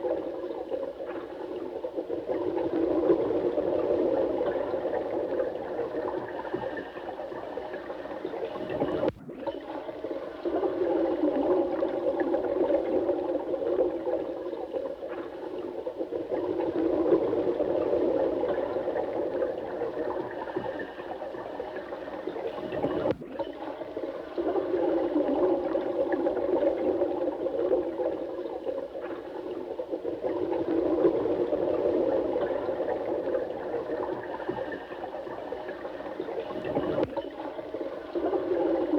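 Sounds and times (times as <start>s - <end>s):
gurgling running water: 0.0s - 38.9s.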